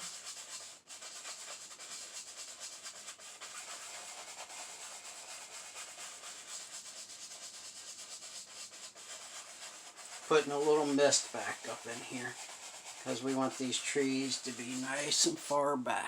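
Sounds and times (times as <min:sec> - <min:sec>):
paintbrush scrubbing on canvas: 0:00.0 - 0:15.6.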